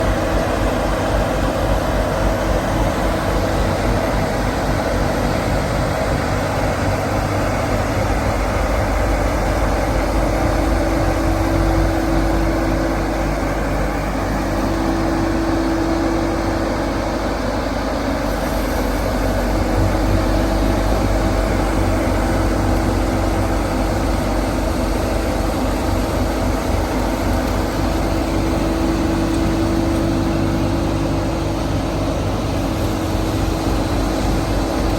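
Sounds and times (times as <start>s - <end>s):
snow-clearing machine engine running: 0.0s - 34.9s.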